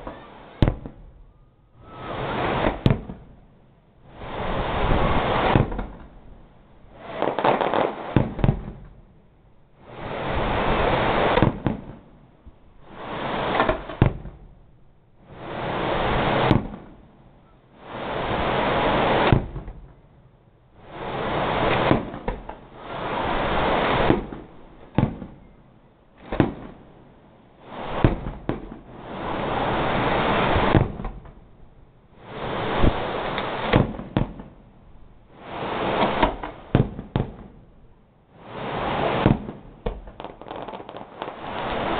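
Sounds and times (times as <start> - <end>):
fireworks banging: 0.0 - 9.1, 9.8 - 14.6, 15.2 - 17.1, 17.8 - 20.0, 20.8 - 41.9
fireworks crackling and hissing: 0.0 - 41.9.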